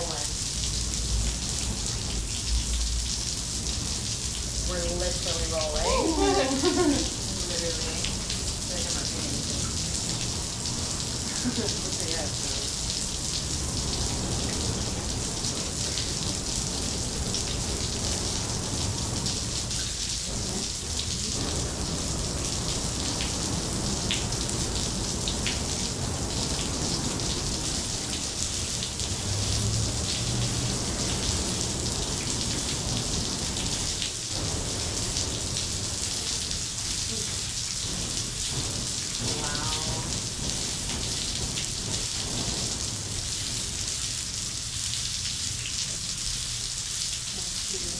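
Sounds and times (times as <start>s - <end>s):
artificial rain from sprinklers: 0.0s - 47.9s.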